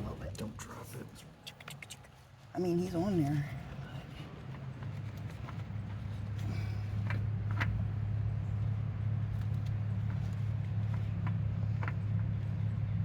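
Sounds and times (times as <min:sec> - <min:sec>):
low machine hum: 0:02.5 - 0:13.0.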